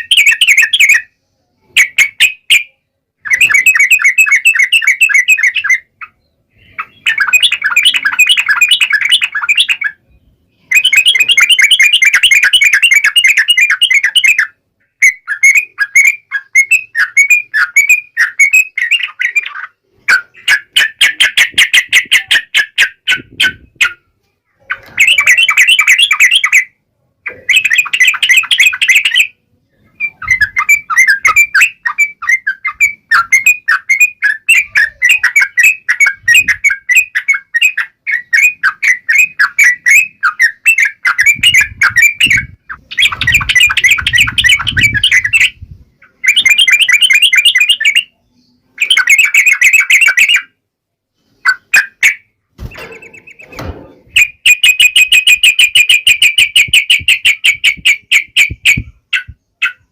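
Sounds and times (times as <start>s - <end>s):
bird chirping rapidly: 0.0s - 1.1s, 1.7s - 24.1s, 24.7s - 50.6s, 51.2s - 59.9s.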